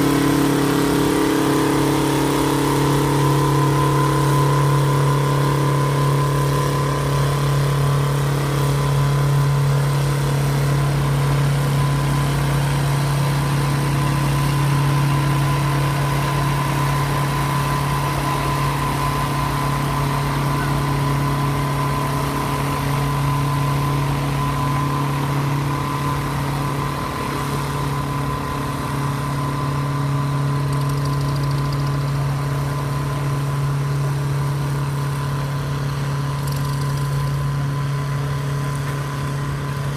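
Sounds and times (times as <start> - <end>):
high engine whine: 0.0 - 39.9
tractor diesel engine running: 0.0 - 39.9.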